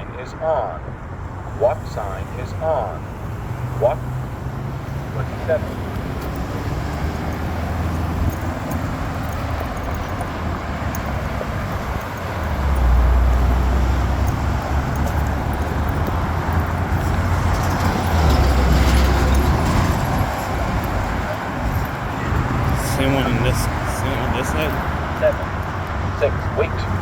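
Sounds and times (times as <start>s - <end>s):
cars passing: 0.0s - 27.0s.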